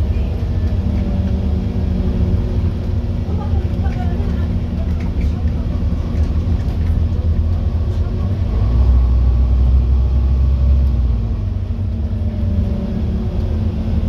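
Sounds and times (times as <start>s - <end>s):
bus engine rumbling: 0.0s - 14.0s.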